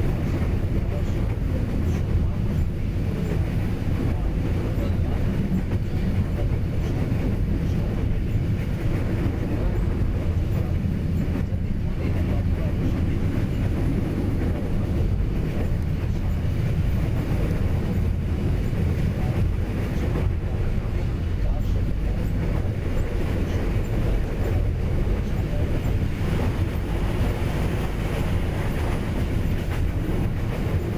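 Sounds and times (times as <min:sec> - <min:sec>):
train rumbling on rails: 0:00.0 - 0:30.9.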